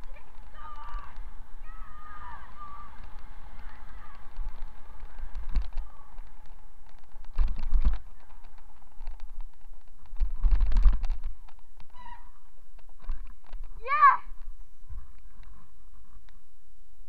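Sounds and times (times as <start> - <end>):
bicycle rattles and clicks: 0.0 - 16.4
wind and road rumble: 0.0 - 17.0.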